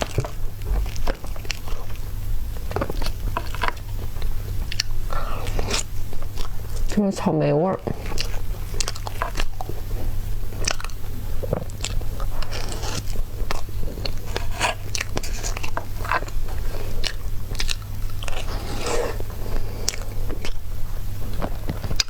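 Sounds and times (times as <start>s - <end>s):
person chewing dessert: 0.0s - 22.0s
steady low hum: 0.0s - 22.0s.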